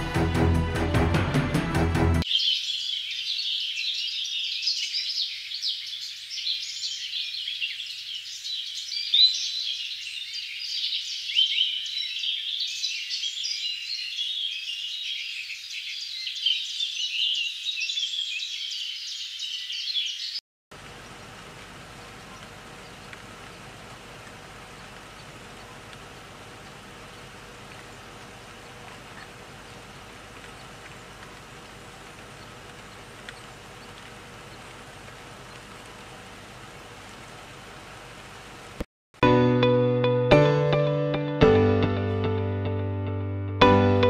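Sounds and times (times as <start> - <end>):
birds chirping chorus: 2.2 - 38.8.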